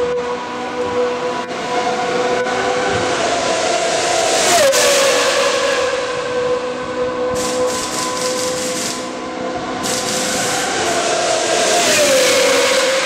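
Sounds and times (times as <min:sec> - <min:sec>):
racing car engine running: 0:00.2 - 0:13.0.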